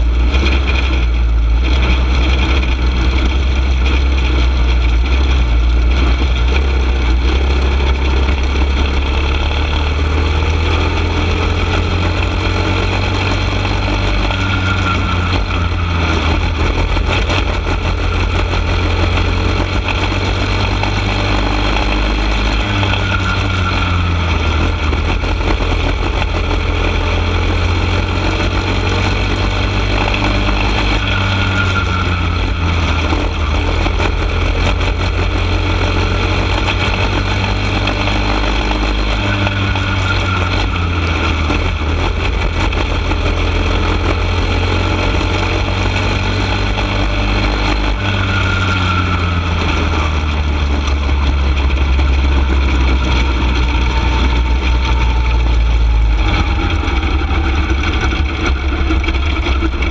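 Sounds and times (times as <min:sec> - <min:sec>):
go-kart engine racing: 0:00.0 - 0:59.9.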